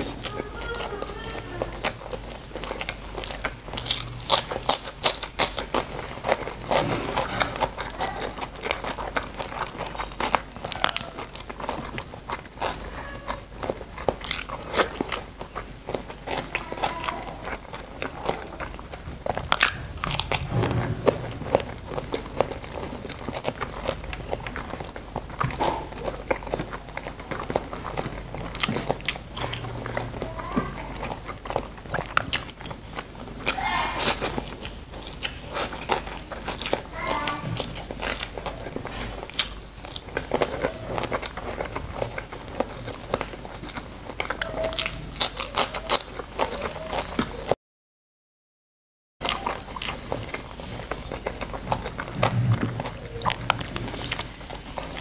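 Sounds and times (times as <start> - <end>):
person chewing crunchy food: 0.0 - 47.6, 49.2 - 55.0.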